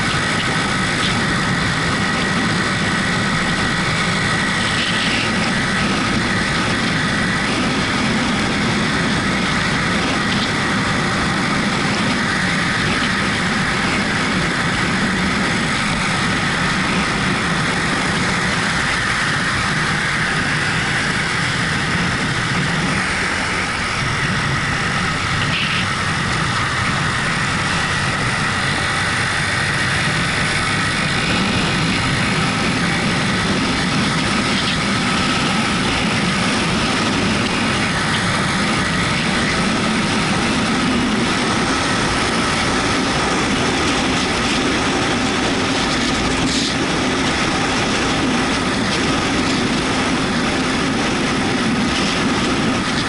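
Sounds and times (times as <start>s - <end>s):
motorcycle engine running: 0.0s - 53.0s
wind and road noise: 0.0s - 53.0s.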